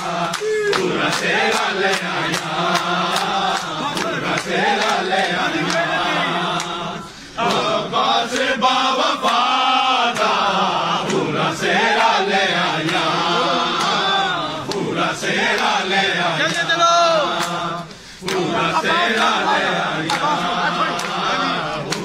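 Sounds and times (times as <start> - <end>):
men chanting a devotional song: 0.0 - 22.0.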